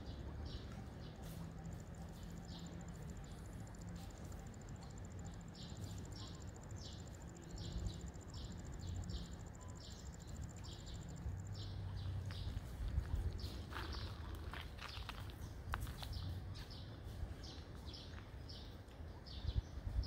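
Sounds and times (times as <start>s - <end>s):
insects chirping: 0.0s - 20.0s
low steady hum: 0.0s - 20.0s.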